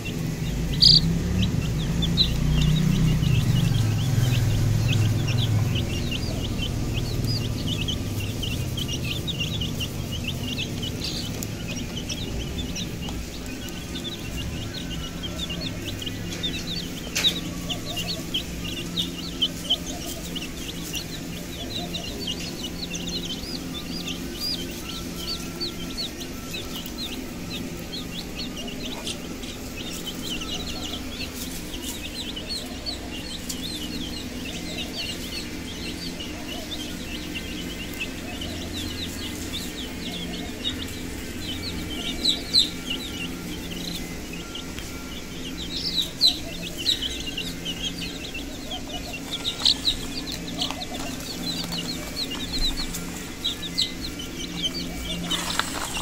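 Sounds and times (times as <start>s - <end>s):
chicks peeping: 0.0s - 56.0s
steady low hum: 0.0s - 56.0s.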